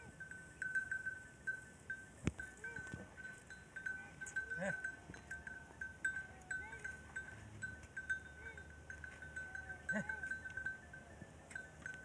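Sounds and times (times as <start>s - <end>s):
camel bell ringing: 0.0s - 12.0s.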